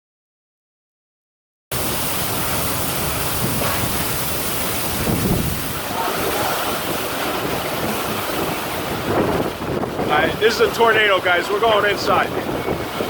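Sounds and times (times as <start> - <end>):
heavy rain: 1.7 - 13.0
strong storm wind: 1.7 - 13.0
wind buffeting the microphone: 1.8 - 13.0.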